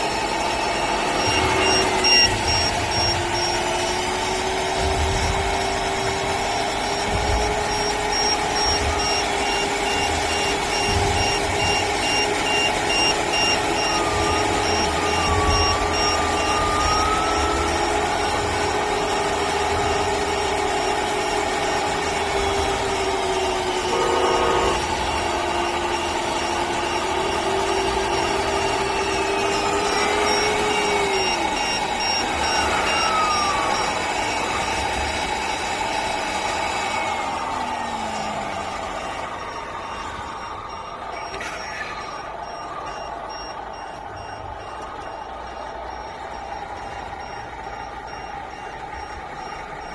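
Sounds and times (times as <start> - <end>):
high repeating beep: 0.0 - 4.0, 4.6 - 49.9
diesel truck engine through speaker: 0.0 - 49.9.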